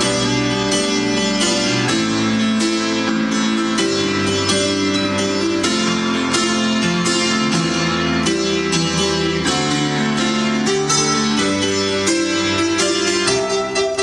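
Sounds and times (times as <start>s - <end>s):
grand piano playing: 0.0s - 14.0s.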